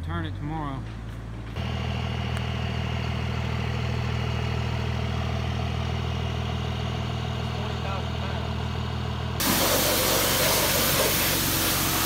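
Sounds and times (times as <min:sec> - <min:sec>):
engine idling: 0:01.1 - 0:12.0.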